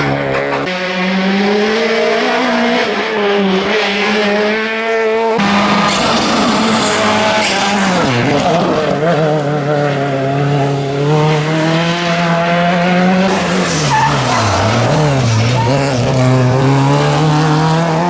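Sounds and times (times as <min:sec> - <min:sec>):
rally car engine running hard: 0:00.0 - 0:18.0.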